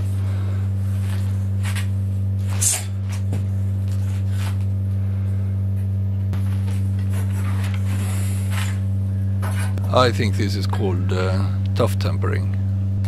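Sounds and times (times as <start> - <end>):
kiln humming: 0.0 - 13.0.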